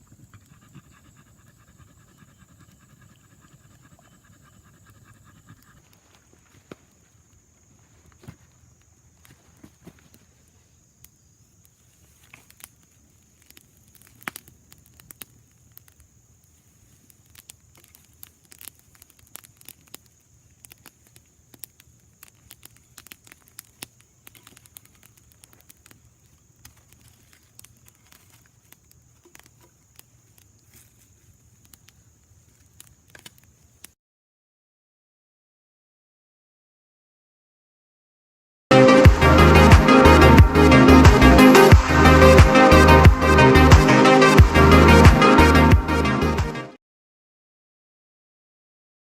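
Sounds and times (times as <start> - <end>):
campfire crackling and popping: 0.0 - 34.0, 38.7 - 46.6.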